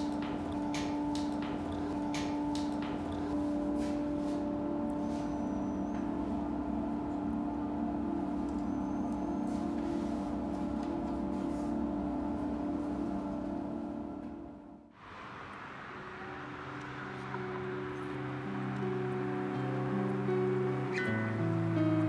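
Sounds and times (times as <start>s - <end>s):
factory machinery humming: 0.0s - 21.8s.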